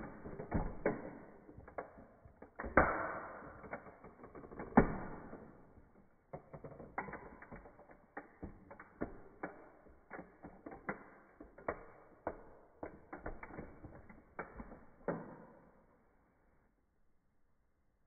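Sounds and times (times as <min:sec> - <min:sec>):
toy car cracking and creaking: 0:00.0 - 0:15.6.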